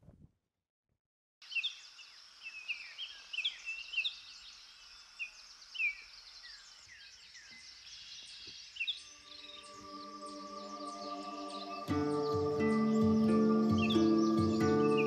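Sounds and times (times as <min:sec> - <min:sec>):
background hiss: 0:01.4 - 0:15.0
small birds chirping: 0:01.4 - 0:15.0.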